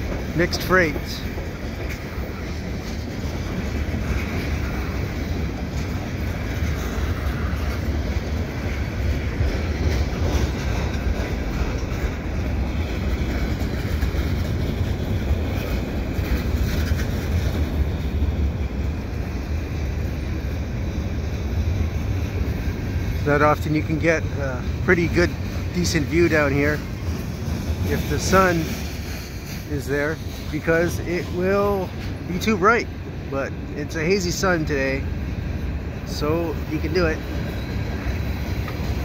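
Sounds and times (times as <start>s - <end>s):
freight train wheels rumbling on rail: 0.0s - 39.0s.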